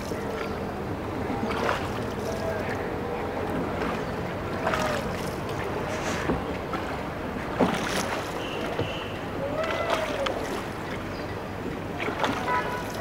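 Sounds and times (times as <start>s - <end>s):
paddle splashes: 0.0s - 13.0s
water splashing around boat: 0.0s - 13.0s.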